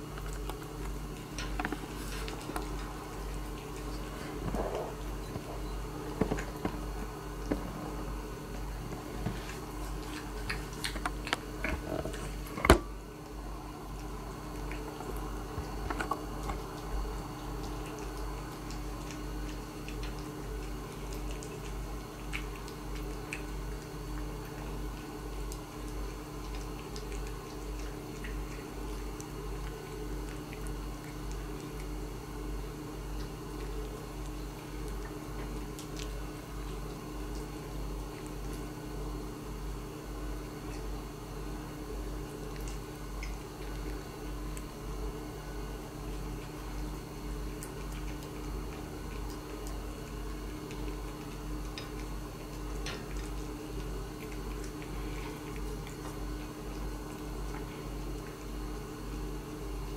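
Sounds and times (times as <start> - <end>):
cat chewing: 0.0 - 59.9.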